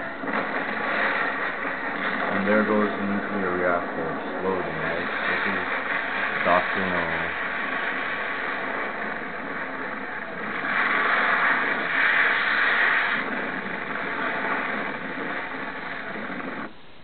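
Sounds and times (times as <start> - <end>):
explosion rushing noise: 0.0 - 16.7.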